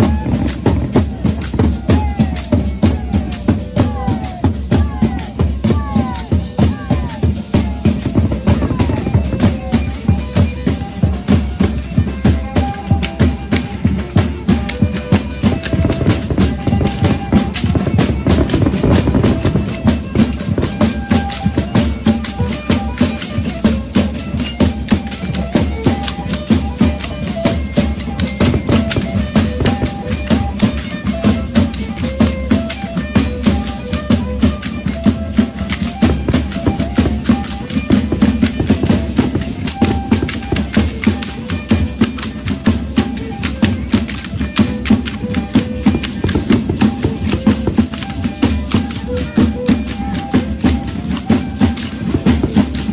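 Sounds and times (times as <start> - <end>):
steady drum beat: 0.0 - 52.9
violin playing a repeating tune: 0.0 - 52.9.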